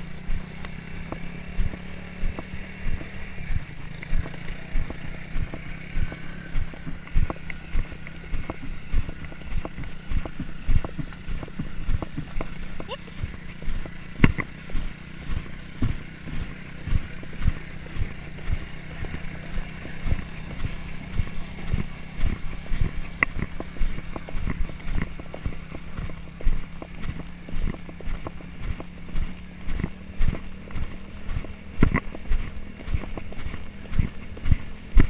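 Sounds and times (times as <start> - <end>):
horse hooves on dirt: 0.0 - 35.0
quad bike engine hum: 0.0 - 35.0.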